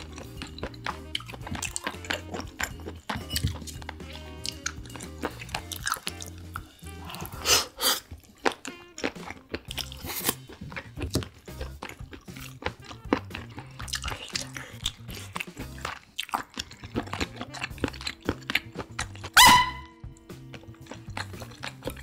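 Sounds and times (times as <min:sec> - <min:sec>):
background music: 0:00.0 - 0:22.0
chewing and crunching seafood: 0:00.0 - 0:22.0.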